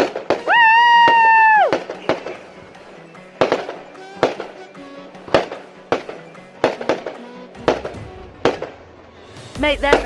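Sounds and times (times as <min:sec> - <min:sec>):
fireworks exploding: 0:00.0 - 0:10.0.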